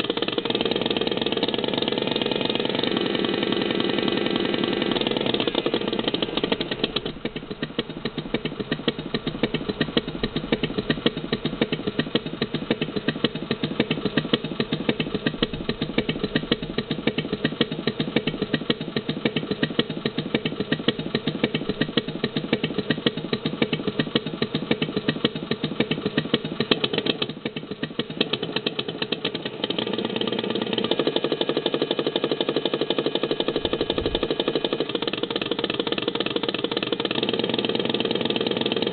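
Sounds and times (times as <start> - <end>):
recorded motorcycle engine idling: 0.0 - 38.9.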